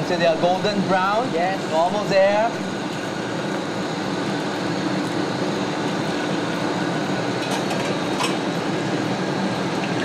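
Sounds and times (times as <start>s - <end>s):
wok burner roaring: 0.0s - 10.0s.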